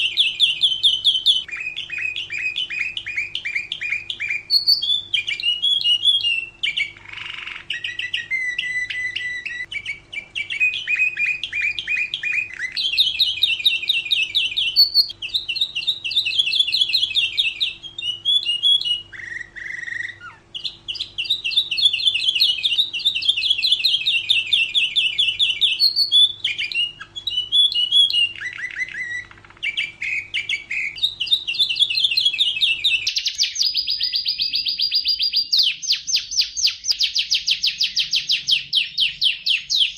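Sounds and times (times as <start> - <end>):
canary singing trills: 0.0 - 39.9
faint steady hum: 0.0 - 39.9.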